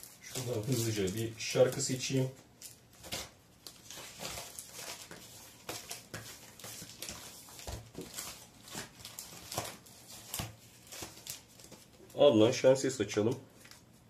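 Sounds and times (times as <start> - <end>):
record sleeves rustling and sliding: 0.0 - 12.0.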